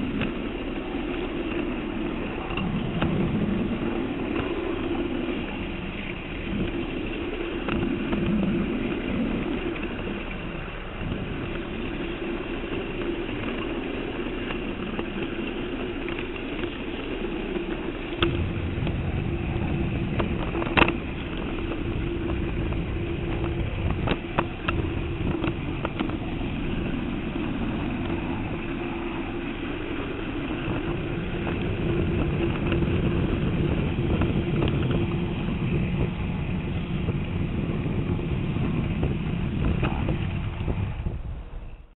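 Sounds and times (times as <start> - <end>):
electric motor and gear whine: 0.0 - 41.9
wheels rumbling on rail: 0.0 - 41.9.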